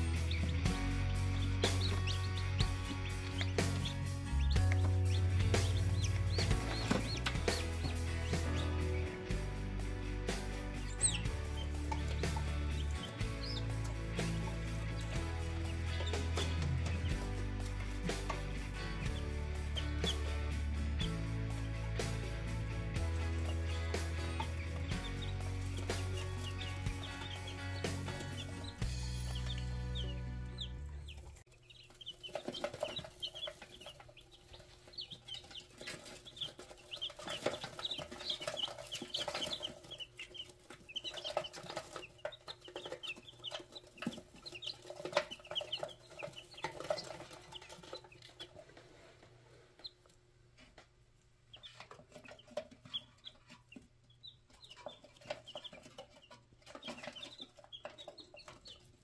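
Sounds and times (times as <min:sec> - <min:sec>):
chicks peeping: 0:00.0 - 0:50.8, 0:51.4 - 0:59.0.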